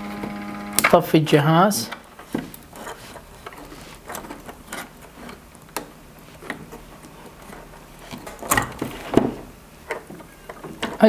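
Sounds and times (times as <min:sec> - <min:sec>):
small clicks and knocks: 0:01.9 - 0:11.0.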